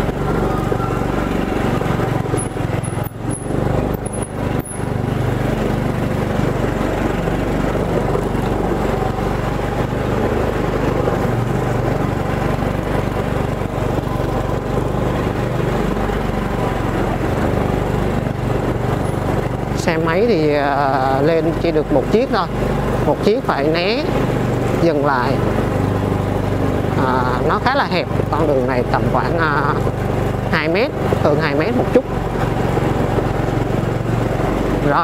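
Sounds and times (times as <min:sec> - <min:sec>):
motorbike engine climbing: 0:00.0 - 0:35.0.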